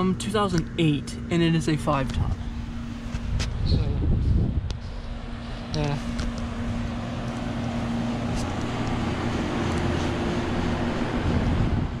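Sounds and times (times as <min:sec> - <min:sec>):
air conditioner units humming: 0:00.0 - 0:12.0.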